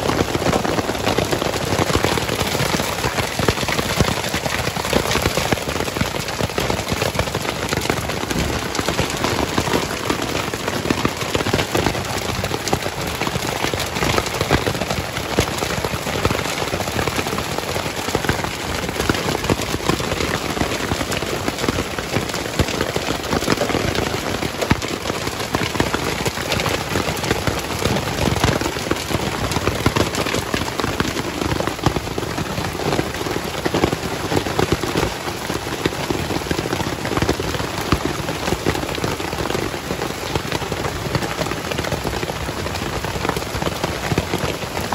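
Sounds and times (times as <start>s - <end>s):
hail pelting on a tarp: 0.0s - 44.9s.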